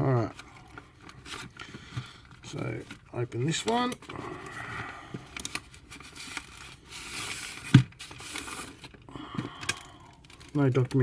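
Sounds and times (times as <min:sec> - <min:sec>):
plastic packaging rustling and crinkling: 0:00.0 - 0:11.0.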